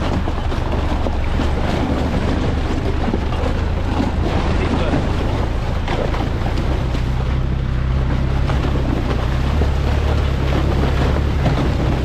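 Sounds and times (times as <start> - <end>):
vehicle engine running at low revs: 0.0 - 12.0
water and ice churning: 0.0 - 12.0.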